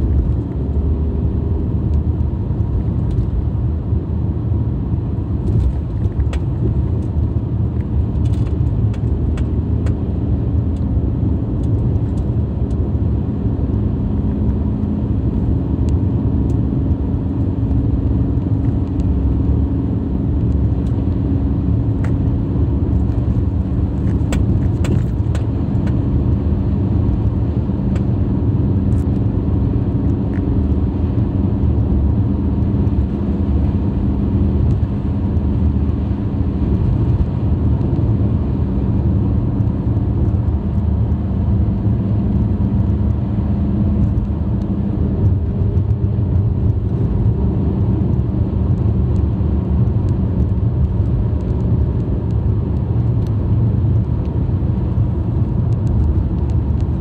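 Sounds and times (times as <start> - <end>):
car engine running: 0.0 - 57.0
tyre and road rumble: 0.0 - 57.0.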